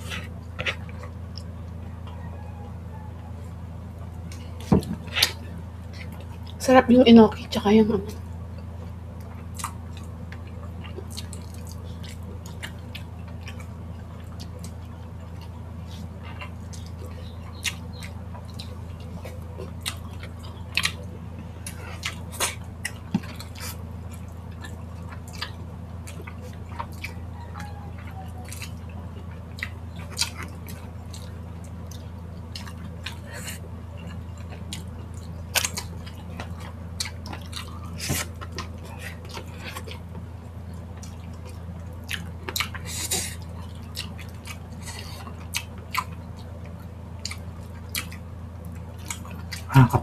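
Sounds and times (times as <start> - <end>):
steady low hum: 0.0 - 50.0
wet chewing: 8.4 - 50.0.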